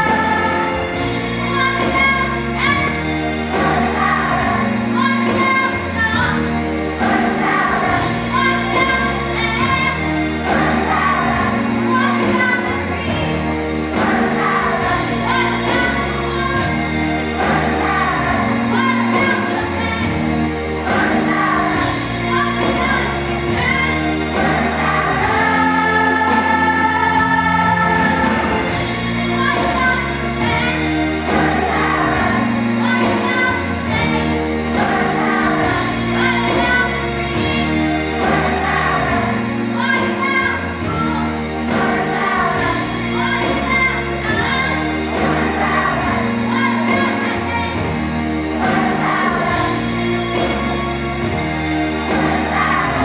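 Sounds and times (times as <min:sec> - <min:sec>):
children's choir singing: 0:00.0 - 0:53.0
instrumental accompaniment with bass: 0:00.0 - 0:53.0.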